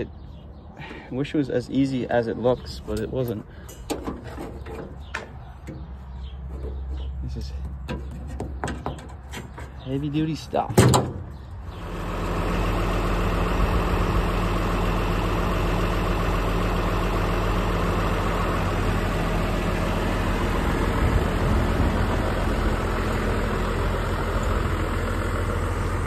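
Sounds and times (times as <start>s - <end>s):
tractor diesel engine idling: 0.8s - 26.0s.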